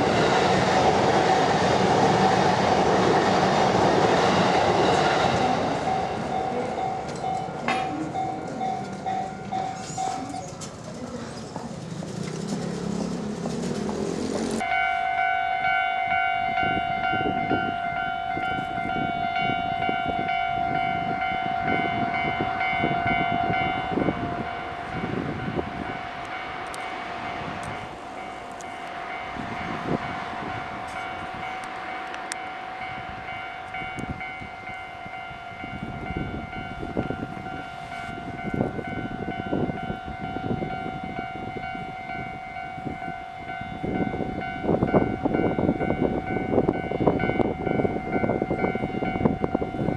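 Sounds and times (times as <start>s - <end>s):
level crossing warning bell: 0.0s - 11.0s, 14.6s - 49.9s
train wheels rumbling on rails: 0.0s - 49.9s.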